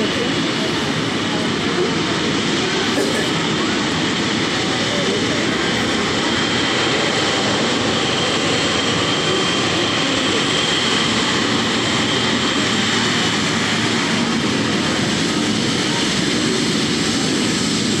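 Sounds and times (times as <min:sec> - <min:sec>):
jet engines rushing and whining: 0:00.0 - 0:18.0.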